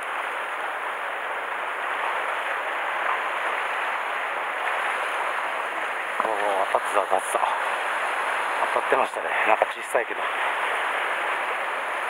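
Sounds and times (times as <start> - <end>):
waves washing against rocks: 0.0 - 12.0.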